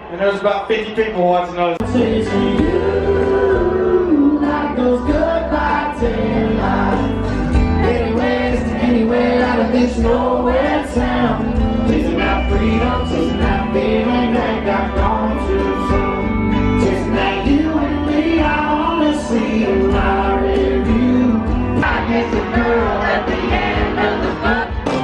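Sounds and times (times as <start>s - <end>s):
live country band: 1.7s - 25.0s
bass guitar: 1.8s - 25.0s
man singing: 1.8s - 25.0s.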